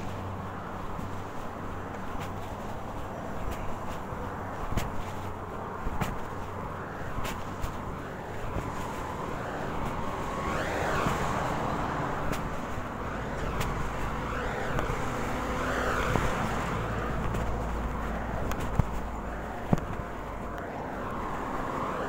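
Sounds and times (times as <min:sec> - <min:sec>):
steady hum of cars: 0:00.0 - 0:22.0
vehicles passing by: 0:00.0 - 0:22.0.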